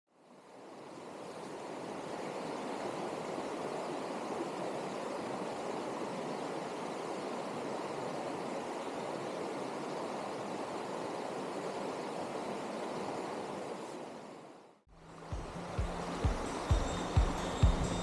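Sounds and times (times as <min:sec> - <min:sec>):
stream water rushing: 0:00.2 - 0:18.0.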